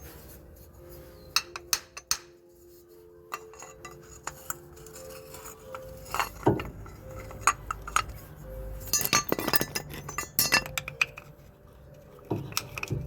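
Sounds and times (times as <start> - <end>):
metal parts and tools clinking: 0.0 - 13.0.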